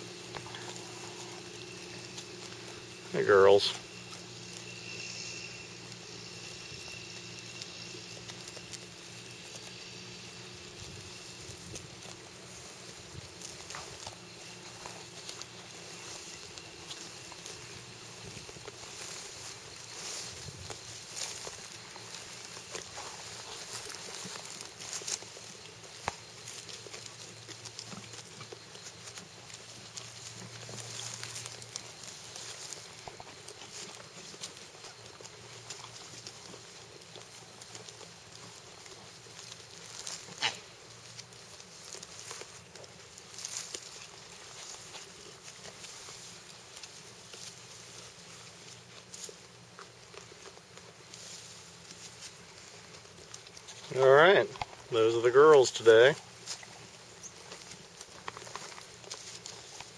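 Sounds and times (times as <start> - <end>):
goats cropping grass: 0.0 - 59.9.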